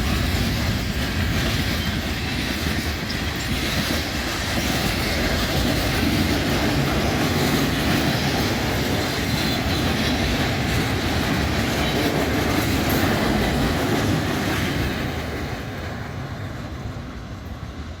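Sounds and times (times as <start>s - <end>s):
train wheels rumbling and clattering: 0.0s - 18.0s.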